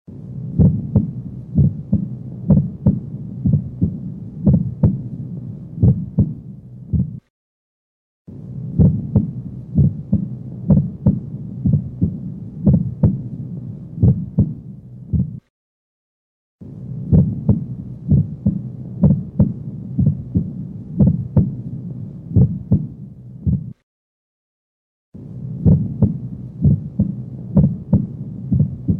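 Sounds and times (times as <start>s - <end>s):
low steady hum: 0.1s - 7.2s, 8.3s - 15.5s, 16.6s - 23.8s, 25.2s - 28.9s
heartbeat through stethoscope: 0.4s - 7.3s, 8.6s - 15.5s, 17.0s - 23.8s, 25.4s - 28.9s.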